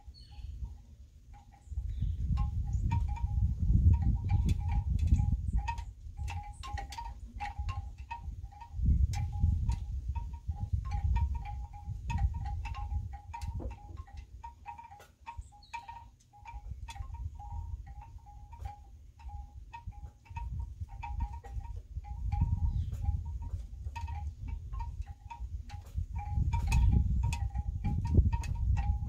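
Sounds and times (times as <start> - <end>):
light ringing clinks: 0.0 - 29.0.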